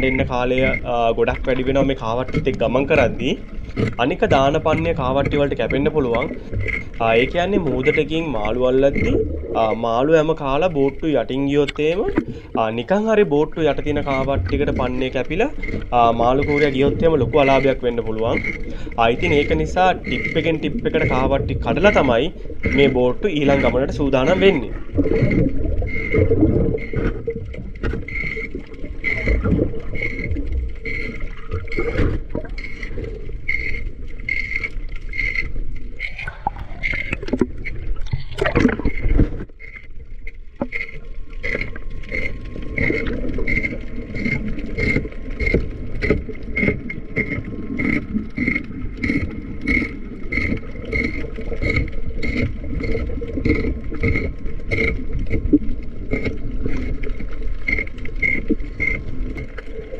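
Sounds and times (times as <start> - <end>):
rhythmic underwater pulsing: 0.0 - 59.9
underwater scraping of hull: 0.0 - 59.9.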